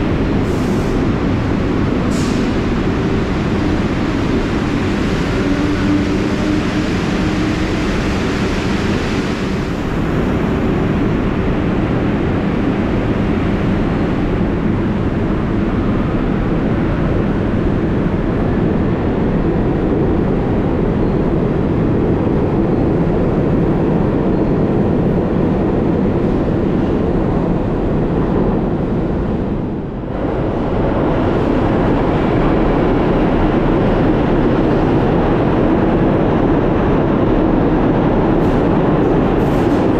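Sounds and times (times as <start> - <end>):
subway train rumbling on track: 0.0 - 39.9.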